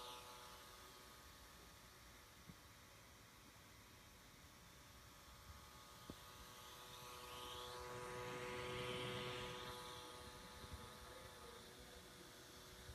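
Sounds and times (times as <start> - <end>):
cooling fan buzzing hum: 0.0 - 12.9.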